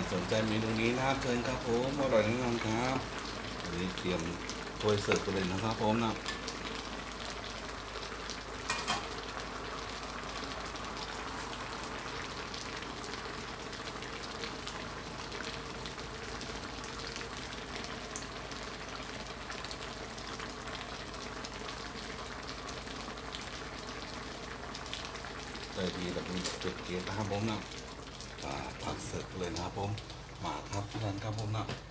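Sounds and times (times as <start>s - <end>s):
curry bubbling in a wok: 0.0s - 31.9s.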